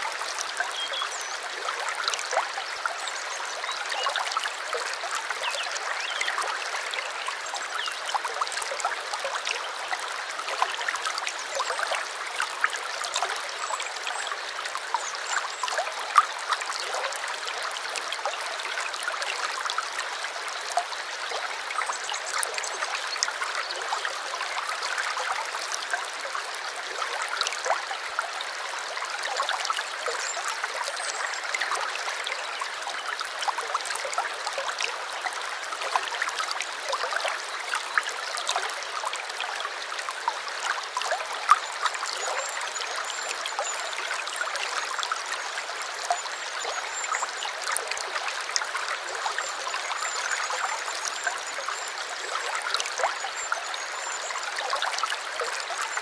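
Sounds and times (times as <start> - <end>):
small stream trickling: 0.0 - 56.0.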